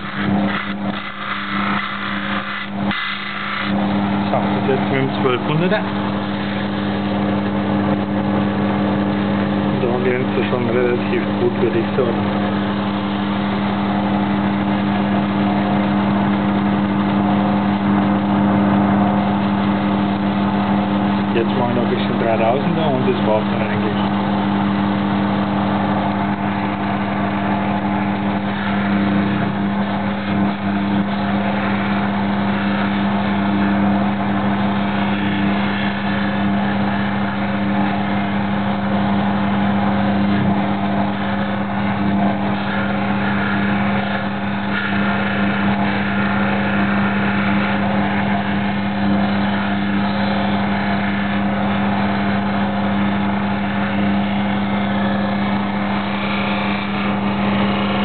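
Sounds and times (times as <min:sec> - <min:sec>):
grinding machine motor hum: 0:00.0 - 0:58.0.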